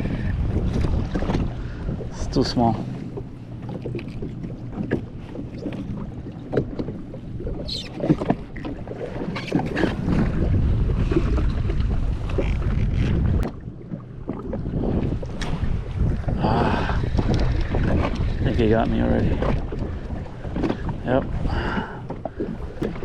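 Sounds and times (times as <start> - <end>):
water moving around jet ski: 0.0 - 23.0
wind buffeting microphone: 0.0 - 23.0.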